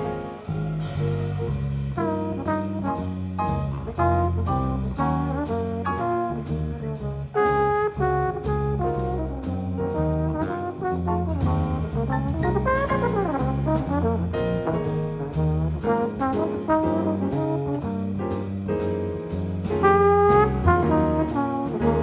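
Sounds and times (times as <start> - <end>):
drum kit with cymbals: 0.0 - 22.0
electric bass: 0.0 - 22.0
piano: 0.0 - 22.0
trombone jazz solo: 0.0 - 22.0.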